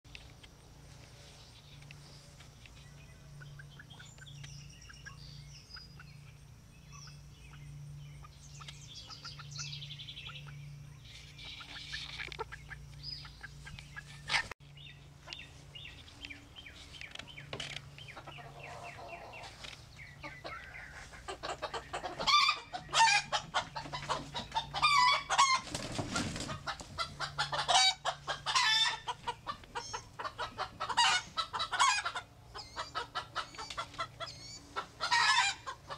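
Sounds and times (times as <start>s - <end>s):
roosters clucking and cackling: 0.1s - 35.9s.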